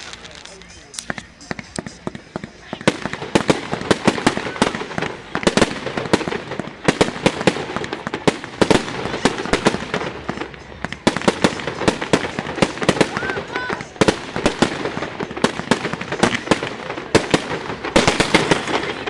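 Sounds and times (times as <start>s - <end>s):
fireworks bangs and cracks: 0.0s - 19.0s.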